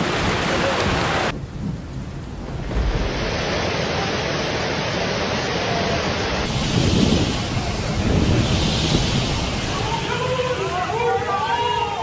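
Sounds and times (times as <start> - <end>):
storm wind and rushing water: 0.0 - 11.0.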